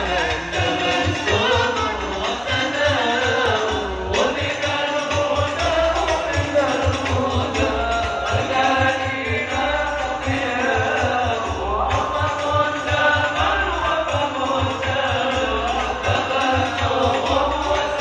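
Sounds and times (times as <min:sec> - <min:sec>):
low drum beat: 0:00.0 - 0:18.0
voices chanting a devotional song: 0:00.0 - 0:18.0.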